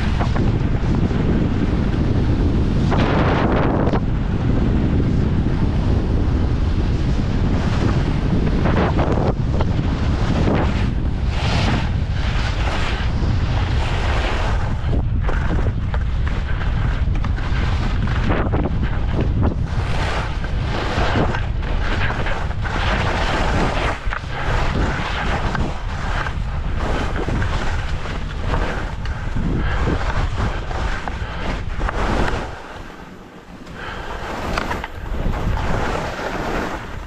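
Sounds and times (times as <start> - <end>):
skis scraping over snow: 0.0 - 37.0
wind buffeting microphone: 0.0 - 37.0.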